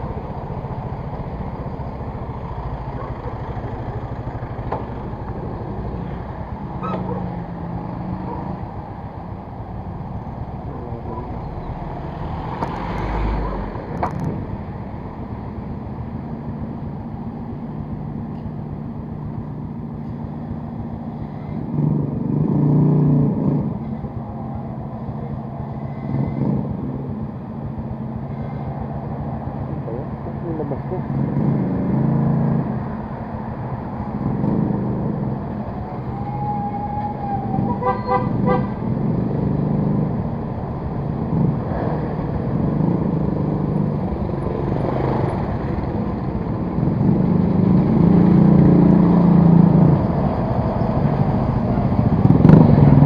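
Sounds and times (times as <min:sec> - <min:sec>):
loud passing vehicle: 0:00.0 - 0:15.2, 0:21.4 - 0:53.0
vehicle engine with road noise: 0:00.0 - 0:53.0.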